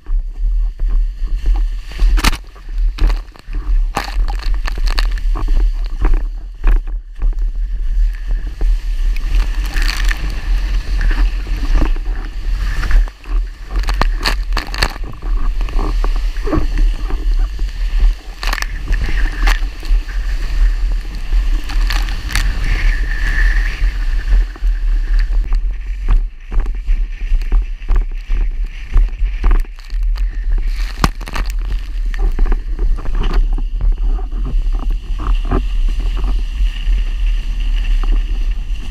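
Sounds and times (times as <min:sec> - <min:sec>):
water rushing and spray: 0:00.0 - 0:26.1, 0:26.8 - 0:33.8
board slapping on waves: 0:00.0 - 0:38.9
wind rumble on microphone: 0:00.0 - 0:38.9.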